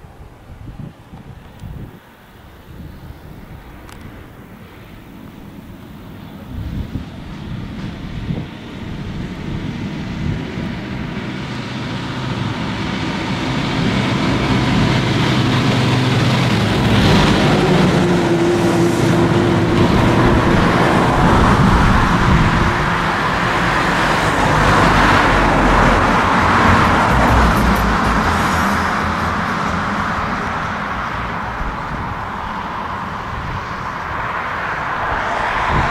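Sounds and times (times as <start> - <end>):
jet engines spooling up: 3.0 - 35.9.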